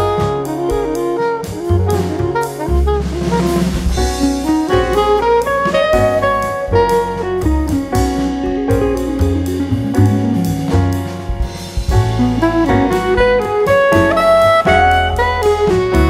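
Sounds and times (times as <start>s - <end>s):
bass: 0.0s - 16.0s
drum kit: 0.0s - 16.0s
saxophone lead melody: 0.0s - 16.0s
upbeat jazz music: 0.0s - 16.0s.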